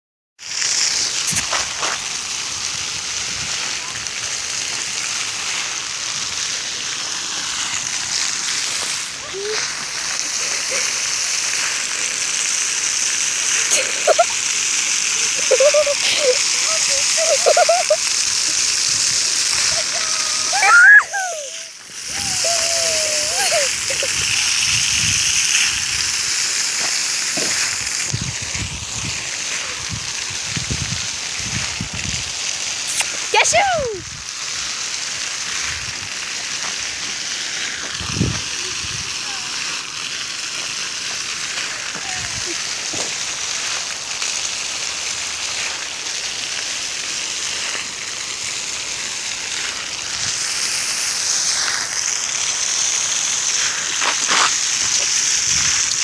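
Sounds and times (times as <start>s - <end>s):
fountain water splashing: 0.4s - 56.0s.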